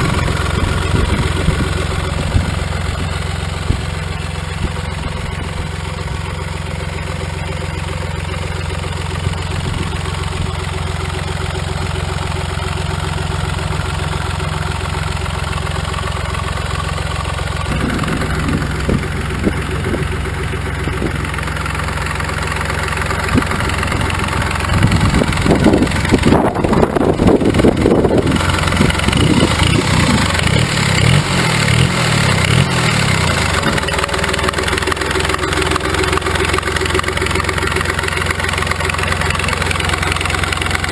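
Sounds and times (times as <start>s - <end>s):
motorcycle diesel engine idling: 0.0s - 40.9s.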